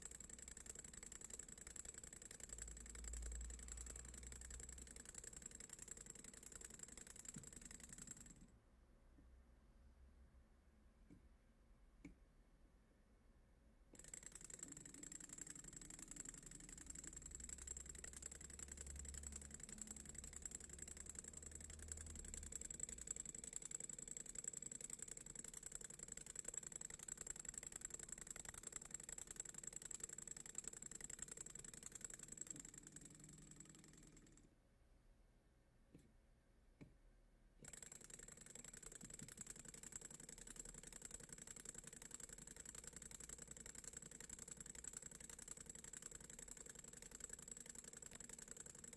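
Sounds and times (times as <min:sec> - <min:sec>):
engine piston rattling: 0:00.0 - 0:08.4, 0:14.0 - 0:34.5, 0:37.6 - 0:48.9.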